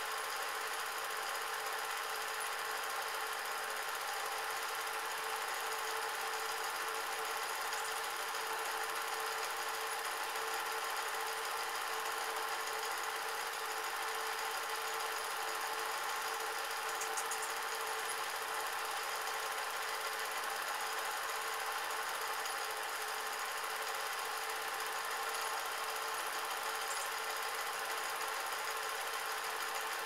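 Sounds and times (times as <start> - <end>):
film projector whirring: 0.0 - 30.0.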